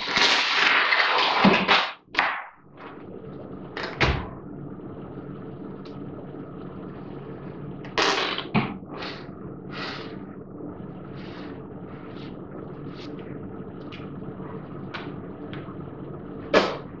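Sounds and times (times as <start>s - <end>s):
steady low hum: 2.0s - 17.0s.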